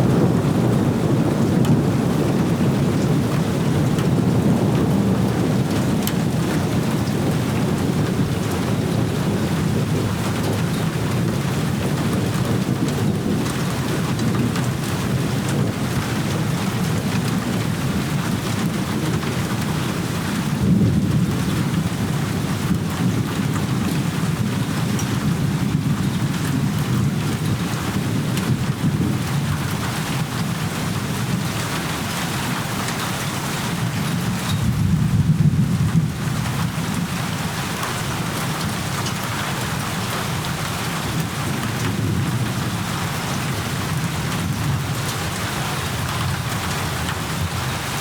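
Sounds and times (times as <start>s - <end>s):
heavy rain: 0.0s - 48.0s
thunder rumbling: 0.0s - 48.0s.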